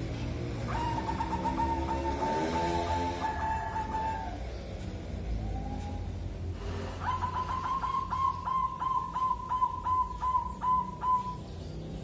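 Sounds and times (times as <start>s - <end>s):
dove cooing: 0.3s - 6.2s, 6.9s - 11.5s.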